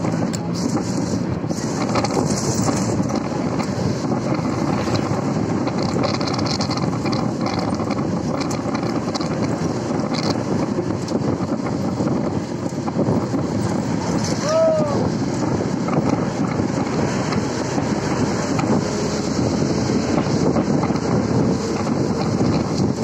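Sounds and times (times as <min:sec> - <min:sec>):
vehicle engine and road noise: 0:00.0 - 0:23.0
wind buffeting microphone: 0:00.0 - 0:23.0.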